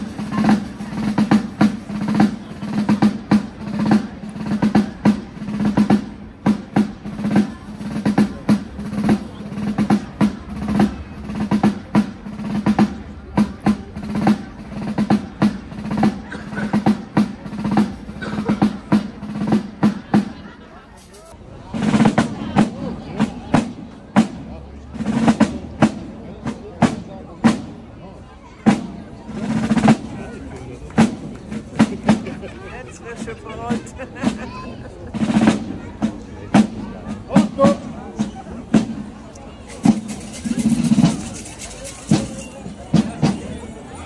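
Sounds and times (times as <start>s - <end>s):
side drums beating a march: 0.0s - 20.5s, 21.7s - 27.9s, 28.6s - 44.0s.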